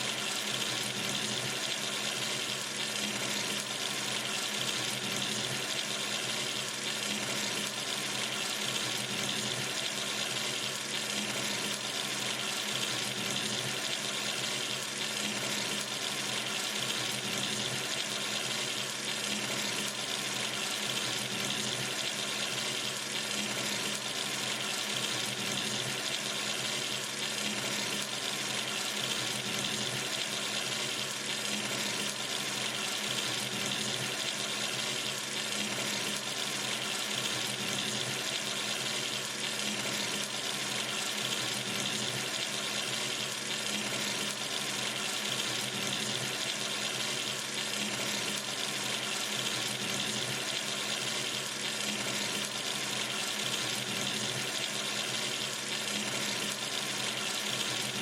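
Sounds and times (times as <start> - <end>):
tap water running into sink: 0.0 - 58.0.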